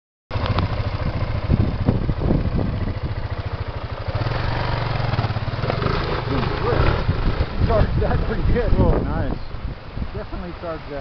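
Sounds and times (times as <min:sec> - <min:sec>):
dirt bike engine at low revs: 0:00.3 - 0:10.6.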